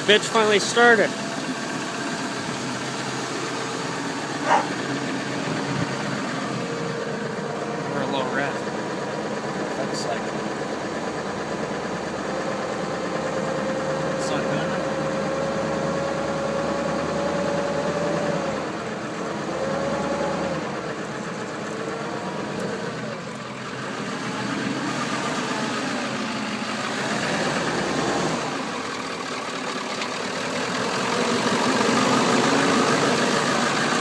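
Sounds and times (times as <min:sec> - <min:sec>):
diesel engine idling roughly: 0:00.0 - 0:34.0.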